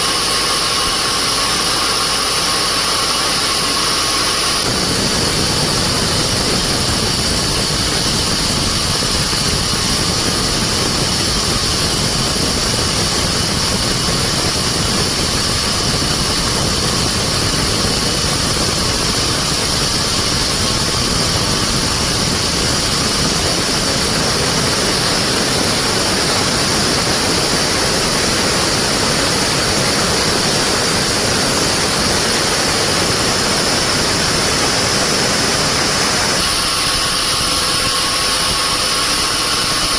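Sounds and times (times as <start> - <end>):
band saw running with whine: 0.0 - 39.9.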